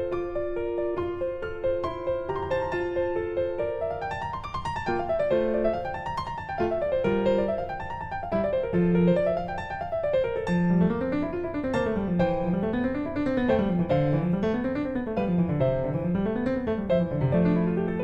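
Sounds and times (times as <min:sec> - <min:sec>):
piano music with arpeggios: 0:00.0 - 0:18.0.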